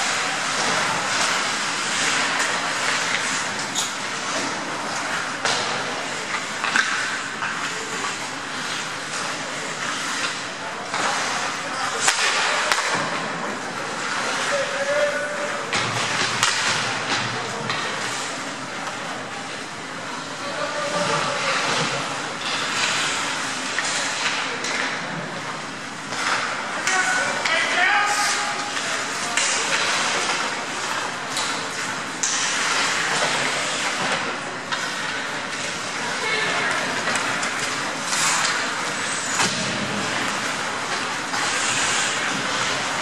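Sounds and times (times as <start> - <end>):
hockey sticks and puck clicking: 0.0 - 13.2, 15.7 - 19.0, 20.9 - 43.0
skate blades scraping ice: 0.0 - 18.5, 20.2 - 25.2, 26.0 - 43.0.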